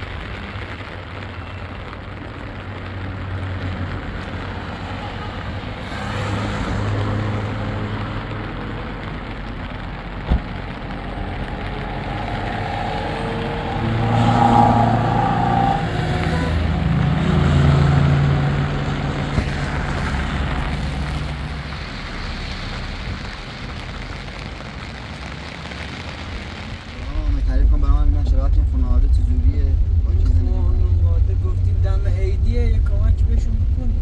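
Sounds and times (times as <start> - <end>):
cars passing on wet road: 0.0 - 34.0.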